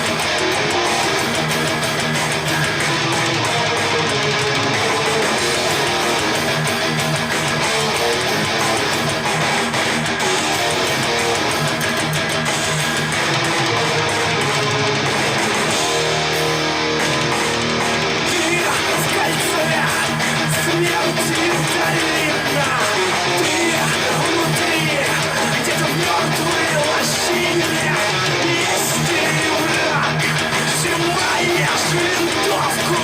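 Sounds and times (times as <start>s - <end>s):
guitar music from loudspeakers: 0.0s - 33.0s.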